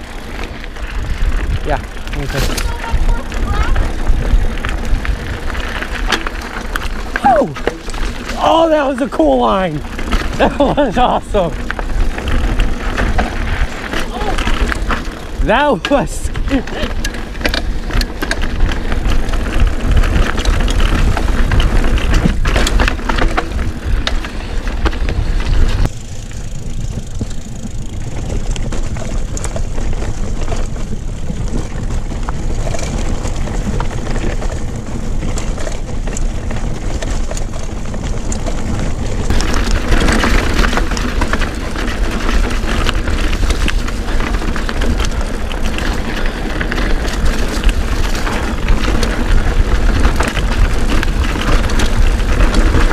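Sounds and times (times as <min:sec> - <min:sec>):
wind buffeting microphone: 0:00.0 - 0:08.8, 0:09.4 - 0:52.9
mountain bike rattling on dirt trail: 0:00.0 - 0:52.9.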